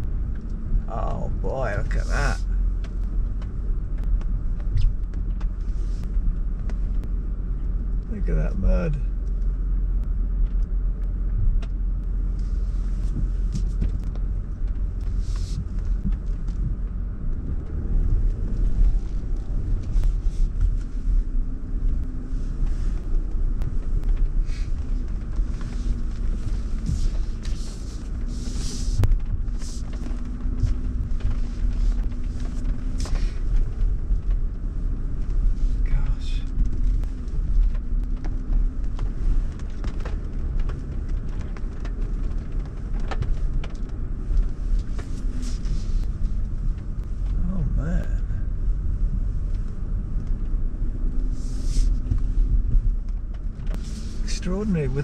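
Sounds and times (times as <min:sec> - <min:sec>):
vehicle engine and tyres rumbling: 0:00.0 - 0:55.0.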